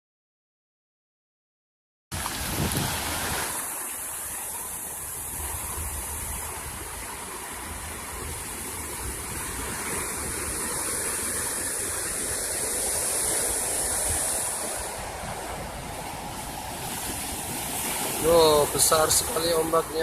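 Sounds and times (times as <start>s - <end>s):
ocean waves breaking: 2.1s - 20.0s.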